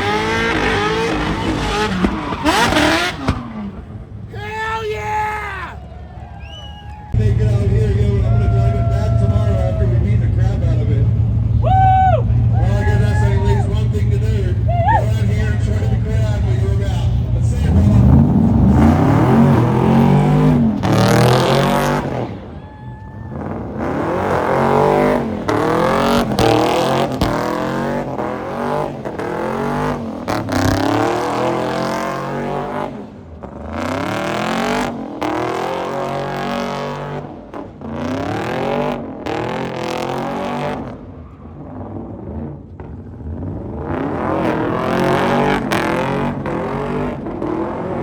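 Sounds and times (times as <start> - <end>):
car engines revving hard: 0.0 - 4.3, 6.4 - 48.0.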